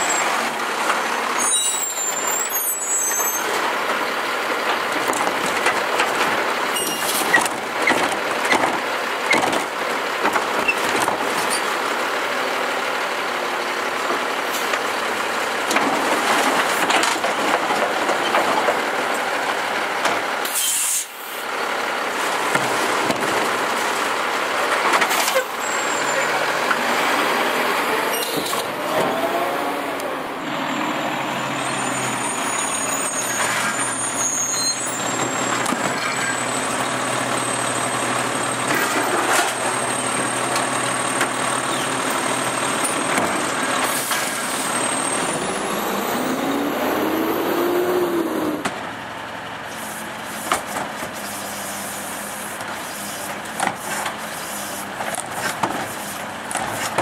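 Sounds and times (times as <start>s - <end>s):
garbage truck diesel engines: 0.0s - 57.0s.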